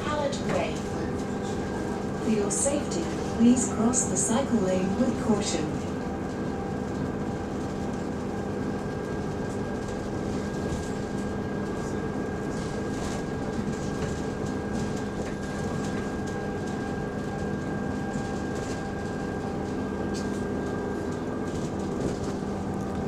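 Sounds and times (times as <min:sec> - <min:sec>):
bus engine and fan drone: 0:00.0 - 0:23.0.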